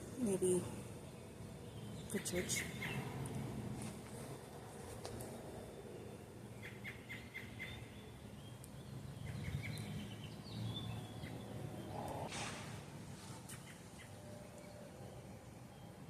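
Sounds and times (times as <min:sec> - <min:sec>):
birds chirping: 0:00.0 - 0:12.3, 0:13.4 - 0:16.0.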